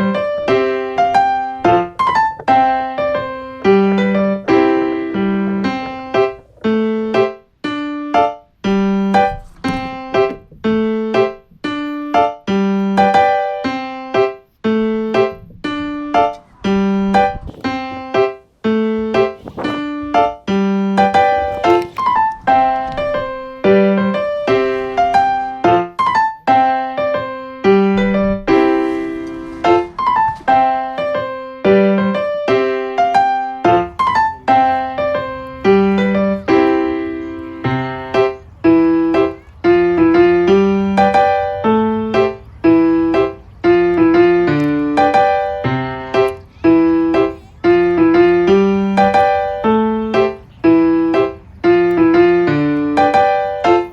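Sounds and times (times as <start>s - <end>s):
piano tune: 0.0s - 53.9s
soft low accompaniment: 0.0s - 53.9s.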